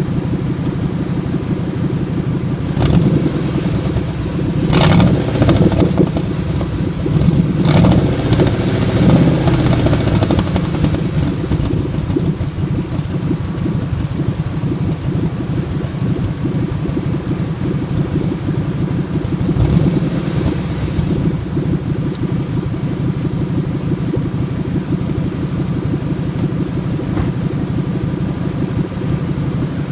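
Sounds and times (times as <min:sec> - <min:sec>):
truck engine idling unevenly: 0:00.0 - 0:29.9.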